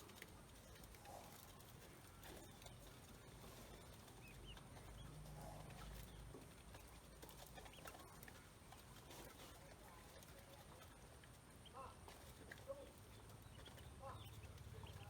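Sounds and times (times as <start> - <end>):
ducklings peeping: 0.6 - 15.0.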